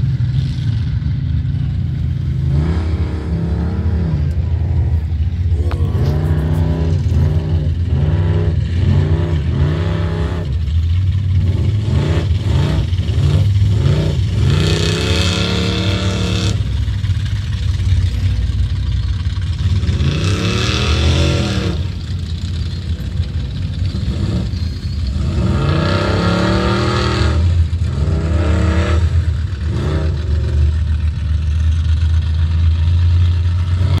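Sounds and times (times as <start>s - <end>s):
low engine rumble: 0.0s - 34.0s
truck engine revving: 0.0s - 34.0s.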